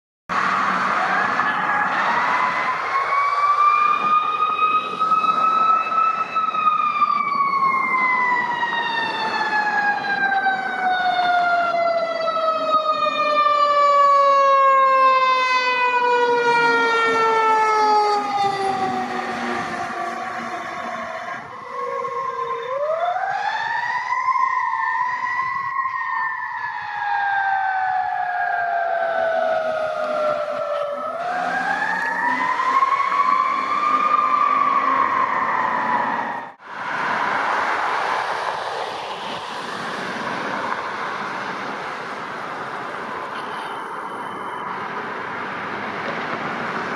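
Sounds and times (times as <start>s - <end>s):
fire engine siren wailing: 0.3s - 46.9s.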